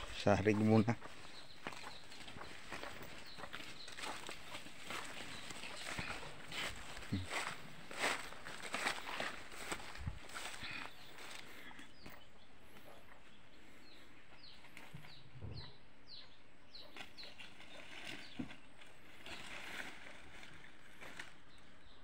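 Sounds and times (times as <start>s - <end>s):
rustling in grass and leaves: 0.0s - 12.8s, 16.8s - 22.0s
bird chirping: 0.0s - 19.6s, 20.4s - 22.0s.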